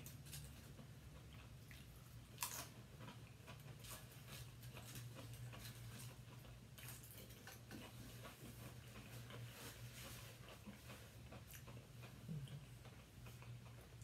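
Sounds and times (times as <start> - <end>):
potato chips crunching: 0.0 - 11.9.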